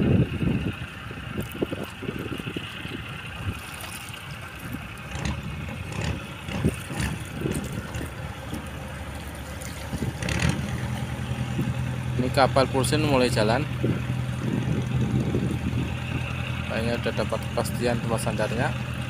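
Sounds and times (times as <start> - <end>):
fishing boat engines idling: 0.0 - 19.0
low engine hum: 0.0 - 19.0.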